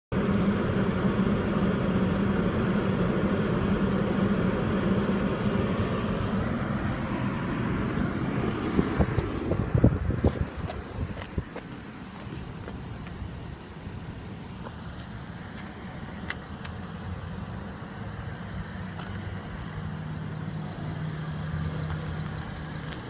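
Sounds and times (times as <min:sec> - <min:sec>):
car engine hum inside cabin: 0:00.1 - 0:23.0.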